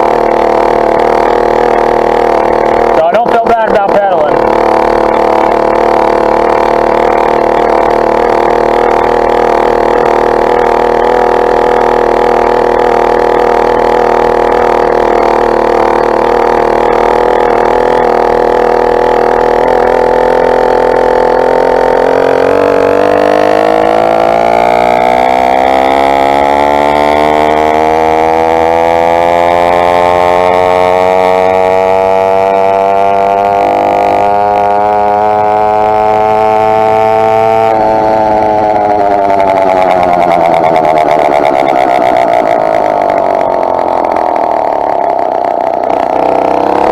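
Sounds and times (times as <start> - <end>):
two-stroke engine running: 0.0 - 46.9.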